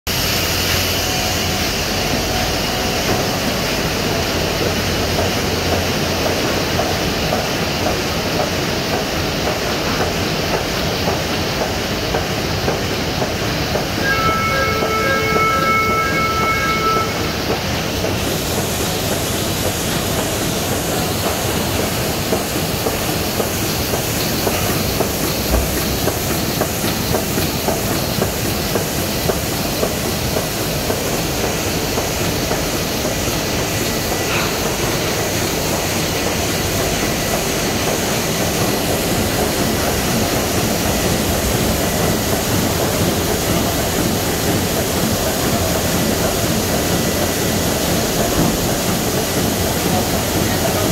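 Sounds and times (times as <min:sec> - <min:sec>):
printing press running: 0:00.1 - 0:50.9.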